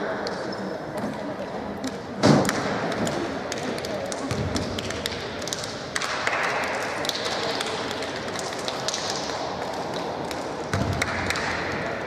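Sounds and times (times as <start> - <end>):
echoing sports hall din: 0.0 - 12.0.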